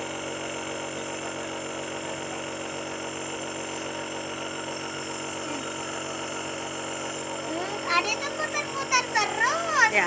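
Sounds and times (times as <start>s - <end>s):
nebulizer compressor humming: 0.0s - 10.0s.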